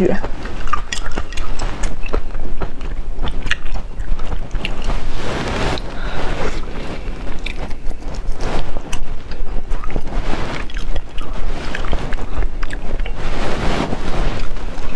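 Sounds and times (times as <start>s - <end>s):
steady low rumble: 0.0s - 14.9s
chewing and wet mouth smacking: 0.2s - 5.1s, 5.7s - 13.3s.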